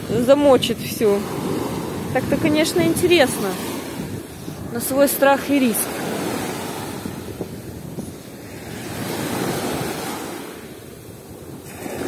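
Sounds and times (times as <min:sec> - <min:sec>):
waves washing on sandy beach: 0:00.0 - 0:12.0
wind buffeting microphone: 0:00.0 - 0:12.0.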